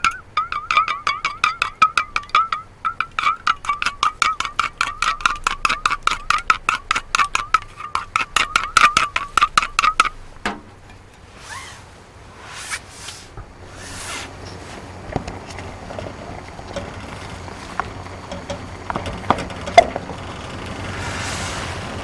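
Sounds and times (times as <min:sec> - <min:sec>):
rapid metallic clinking: 0:00.0 - 0:11.3, 0:14.3 - 0:22.0.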